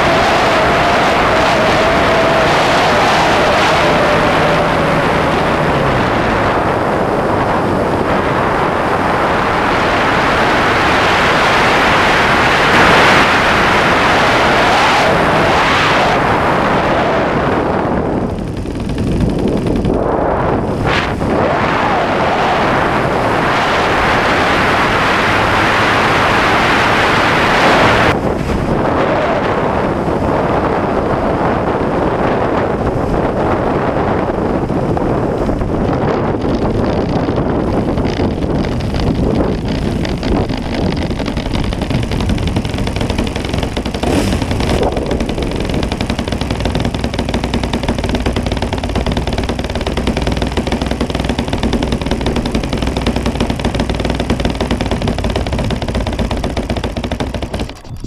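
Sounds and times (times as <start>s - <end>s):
model plane engine running: 0.0s - 58.0s
wind rushing over microphone: 0.0s - 58.0s.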